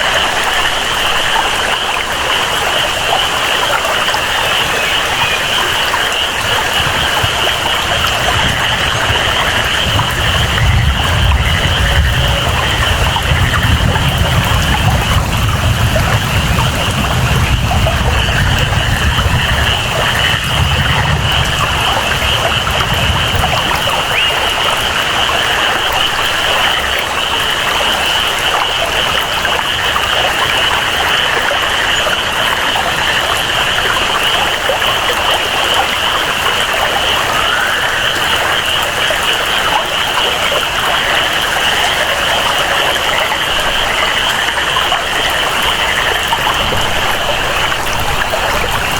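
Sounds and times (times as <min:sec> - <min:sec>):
frogs or insects chorus: 0:00.0 - 0:48.9
heavy rainfall: 0:00.0 - 0:48.9
thunder rumble: 0:04.0 - 0:27.8, 0:28.4 - 0:48.9.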